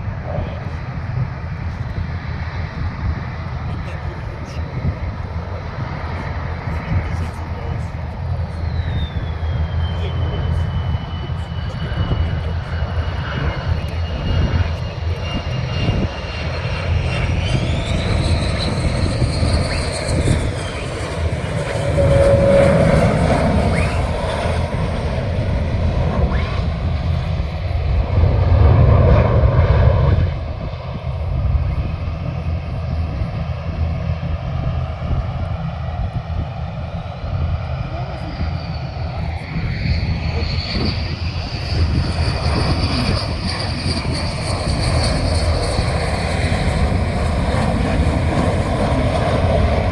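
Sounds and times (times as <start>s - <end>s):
high engine whine: 0.0s - 49.9s
jet engines running: 0.0s - 49.9s.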